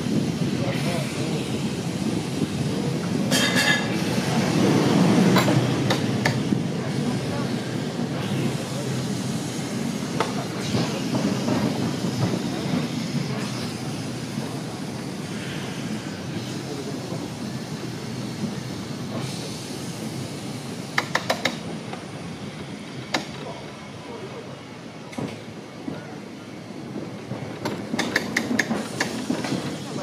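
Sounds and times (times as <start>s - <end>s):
tram wheels rumbling on rails: 0.0s - 30.0s.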